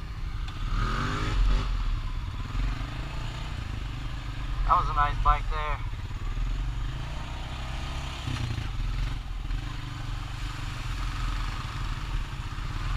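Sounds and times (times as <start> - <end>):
atv engine running: 0.0 - 12.9.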